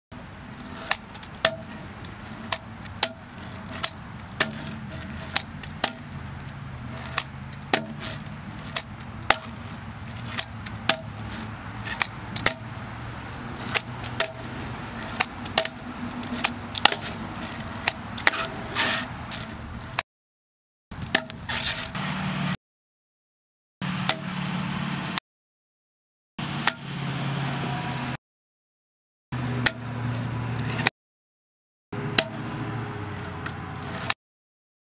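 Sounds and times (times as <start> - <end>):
wheels rolling and scraping: 0.2 - 20.0, 21.0 - 22.6, 23.8 - 25.2, 26.4 - 28.2, 29.4 - 30.9, 32.0 - 34.2.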